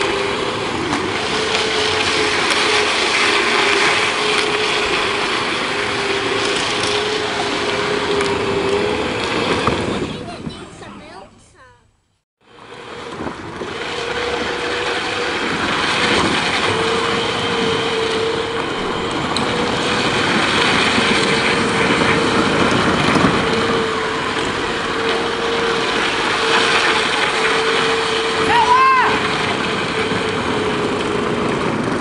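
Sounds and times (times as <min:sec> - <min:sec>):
toy car electric motor whining: 0:00.0 - 0:10.2, 0:12.6 - 0:32.0
plastic wheels rolling over asphalt: 0:00.0 - 0:11.2, 0:12.4 - 0:32.0.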